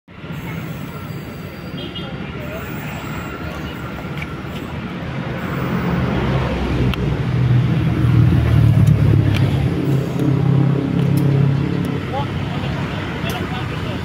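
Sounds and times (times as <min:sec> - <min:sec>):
locomotive engine hum: 0:00.1 - 0:14.0.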